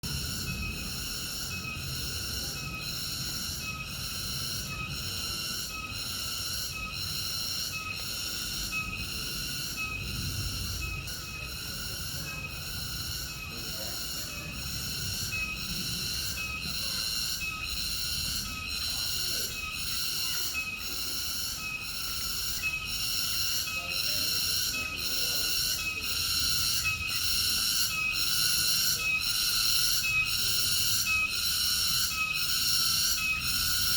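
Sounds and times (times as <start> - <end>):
cicadas buzzing: 0.0 - 33.9.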